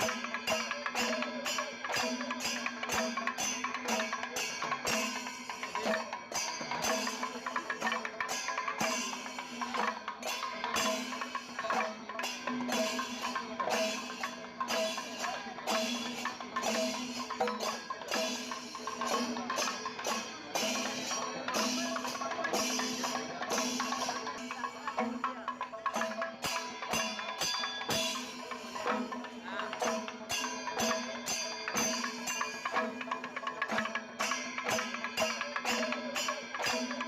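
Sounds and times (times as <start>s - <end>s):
steady percussive beat: 0.0s - 37.0s.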